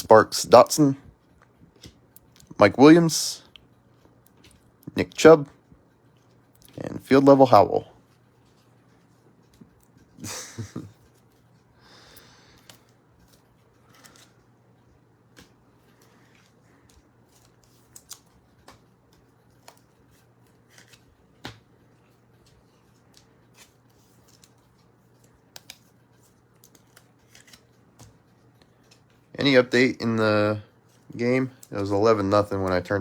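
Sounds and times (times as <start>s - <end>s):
low electrical hum: 0.0s - 33.0s
trading cards being handled: 0.0s - 33.0s.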